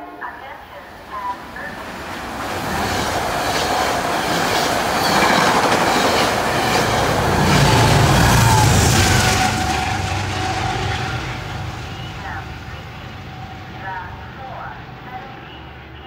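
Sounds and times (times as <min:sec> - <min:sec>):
diesel locomotive passing: 0:00.0 - 0:16.0
passenger train passing: 0:00.0 - 0:16.0.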